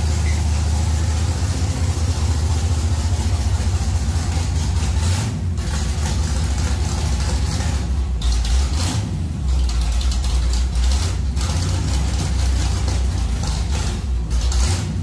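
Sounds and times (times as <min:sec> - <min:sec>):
pickup engine low rumble: 0:00.0 - 0:15.0.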